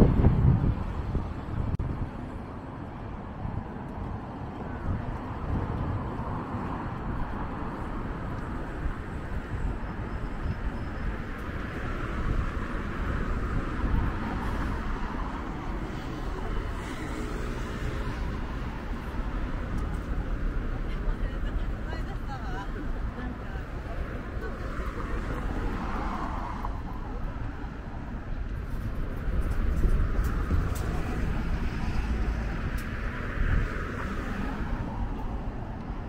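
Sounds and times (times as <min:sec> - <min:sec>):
road traffic hum: 0:00.0 - 0:36.0.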